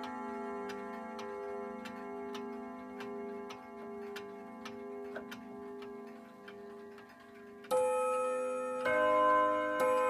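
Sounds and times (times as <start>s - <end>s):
clock chime rods ringing: 0.0s - 10.0s
wall clock ticking: 0.0s - 10.0s.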